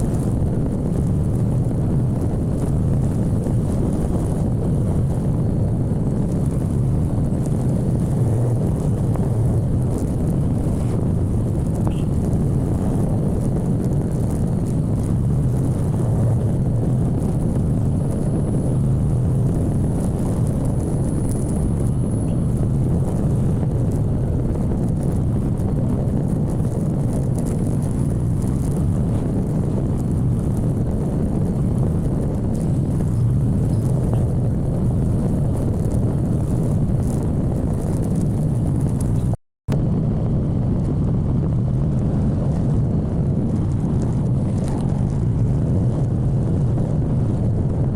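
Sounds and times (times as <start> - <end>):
motorcycle engine rumble: 0.0 - 47.9
road noise: 0.0 - 47.9
wind on microphone: 0.0 - 47.9.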